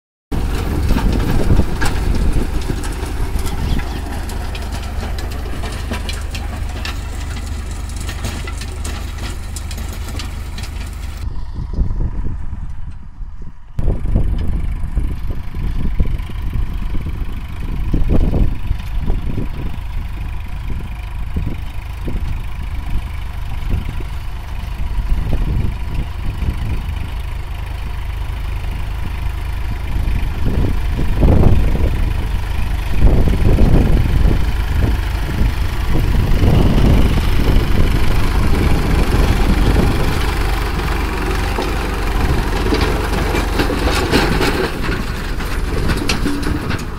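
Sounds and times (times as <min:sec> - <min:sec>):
tractor diesel engine under load: 0:00.3 - 0:46.9.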